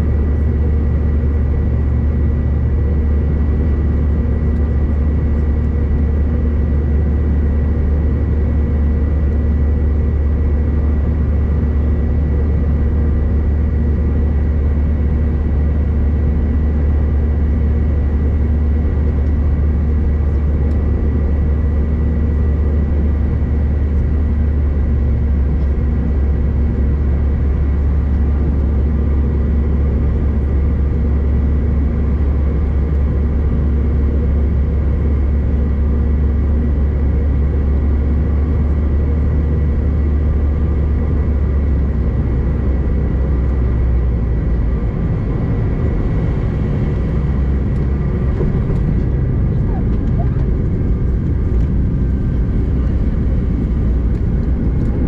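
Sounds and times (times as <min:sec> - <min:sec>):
airliner cabin engine rumble: 0:00.0 - 0:55.0
jet engine whine: 0:00.0 - 0:55.0.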